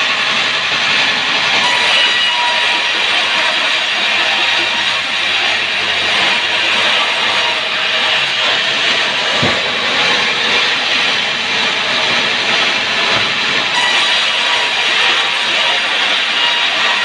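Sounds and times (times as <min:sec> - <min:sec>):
sawmill saw running: 0:00.0 - 0:17.0.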